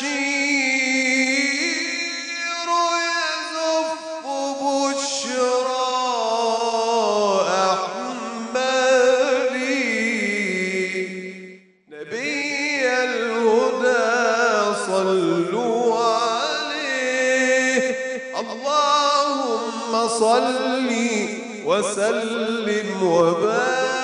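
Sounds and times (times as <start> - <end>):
man chanting into a microphone: 0.0 - 24.0.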